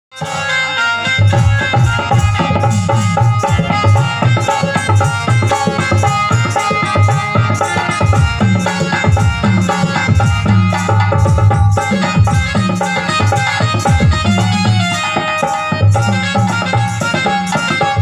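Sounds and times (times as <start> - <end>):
barrel drum steady beat: 0.1 - 18.0
electronic keyboard melody: 0.1 - 18.0.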